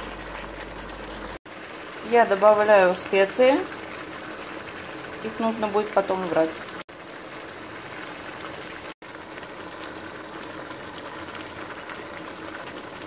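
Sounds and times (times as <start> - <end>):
sauce bubbling in a pan: 0.0 - 13.0.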